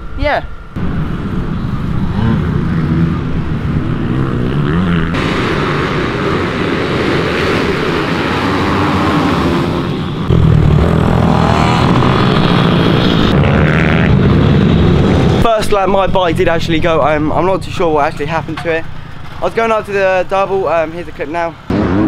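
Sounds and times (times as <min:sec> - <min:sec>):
minibike engines revving: 0:00.6 - 0:22.0.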